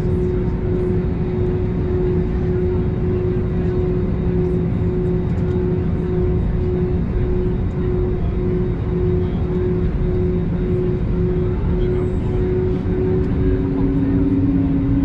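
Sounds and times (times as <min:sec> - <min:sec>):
jet engine roar in cabin: 0:00.0 - 0:15.0.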